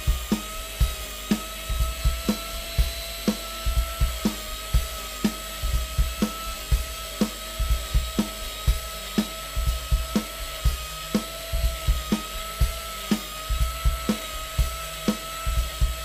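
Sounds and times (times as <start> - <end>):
background music with beat: 0.0 - 16.0
mini grinder whining on wood: 0.0 - 16.0.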